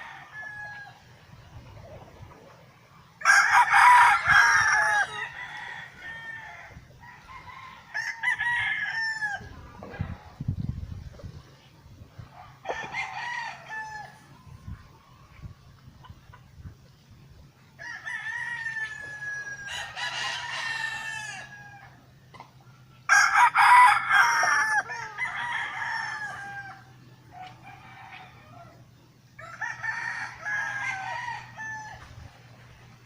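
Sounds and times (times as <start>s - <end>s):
roosters crowing: 0.0s - 1.4s, 2.4s - 10.4s, 12.2s - 15.6s, 17.6s - 33.0s.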